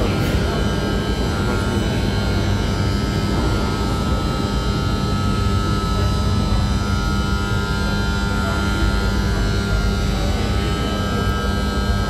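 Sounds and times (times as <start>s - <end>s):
metro station rumbling hum: 0.0s - 12.0s.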